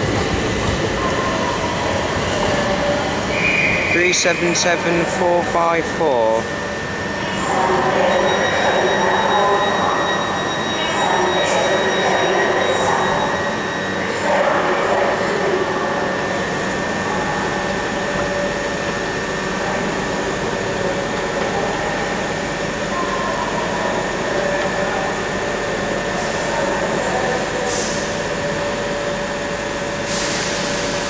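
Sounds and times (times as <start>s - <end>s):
electrical hum and whine of trains: 0.0s - 31.0s.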